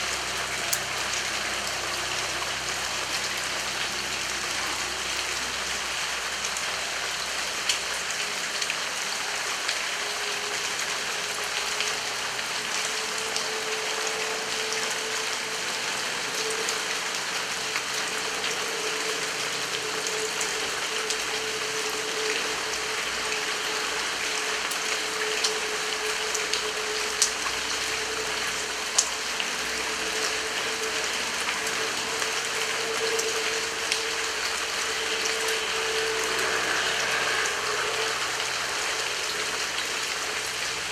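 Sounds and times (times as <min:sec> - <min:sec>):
heavy rain falling: 0:00.0 - 0:40.9
sharp water drips: 0:00.0 - 0:40.9.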